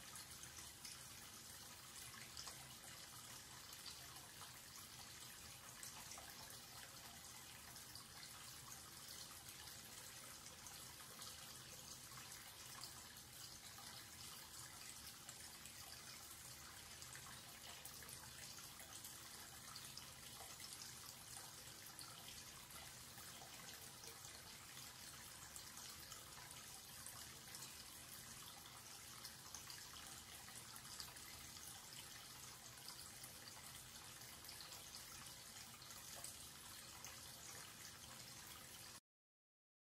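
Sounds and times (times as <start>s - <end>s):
tap water pouring into basin: 0.0s - 39.0s.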